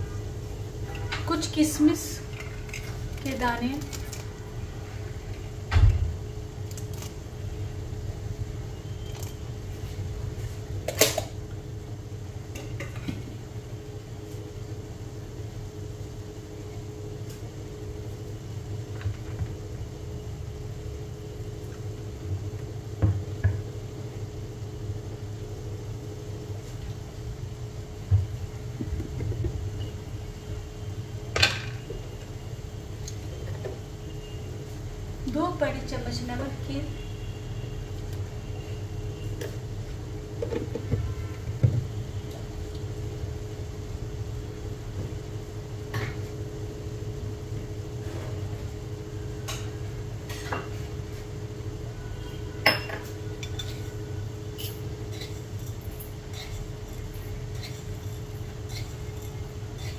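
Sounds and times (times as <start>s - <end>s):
kitchen appliance humming: 0.0s - 59.9s.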